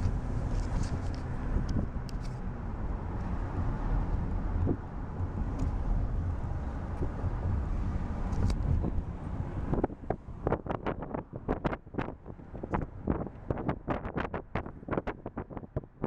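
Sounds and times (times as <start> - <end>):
car road and wind rumble: 0.0 - 16.0.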